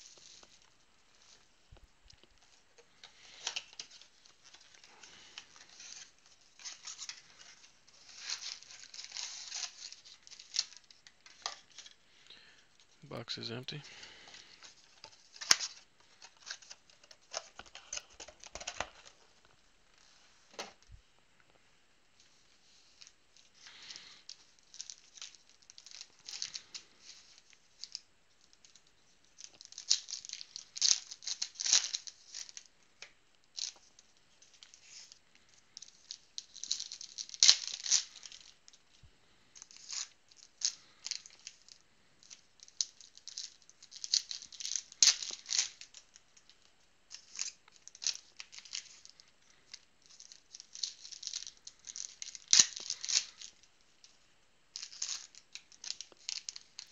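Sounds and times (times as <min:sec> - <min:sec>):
foil wrappers crinkling and tearing: 0:02.1 - 0:12.9, 0:13.8 - 0:19.5, 0:22.7 - 0:56.9.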